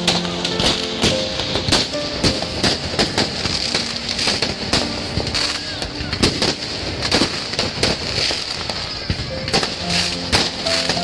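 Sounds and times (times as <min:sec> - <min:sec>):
fireworks and firecrackers banging: 0:00.0 - 0:11.0.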